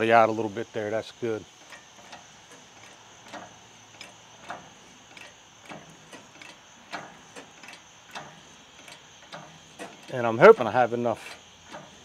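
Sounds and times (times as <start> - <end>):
metallic clicks from engine hoist: 1.4 - 12.0.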